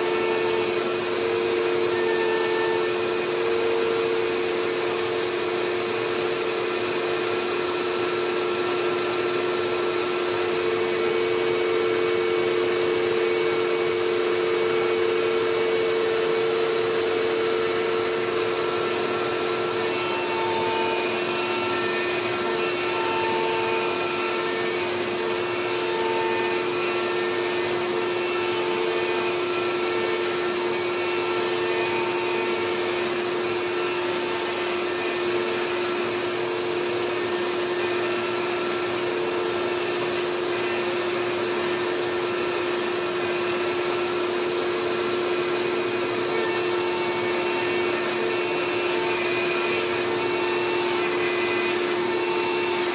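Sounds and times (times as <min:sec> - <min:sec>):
router spindle high whine: 0:00.0 - 0:52.9.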